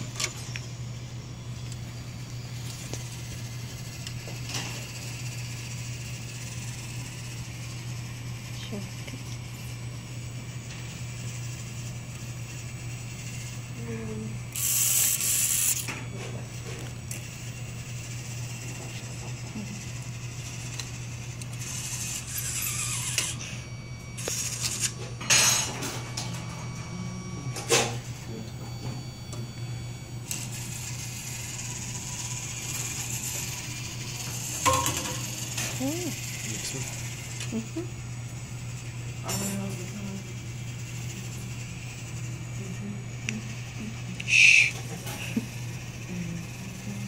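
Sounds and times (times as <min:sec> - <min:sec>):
loud harsh mechanical whir: 0:00.0 - 0:47.0
motor and gears humming and ratcheting: 0:00.0 - 0:47.0.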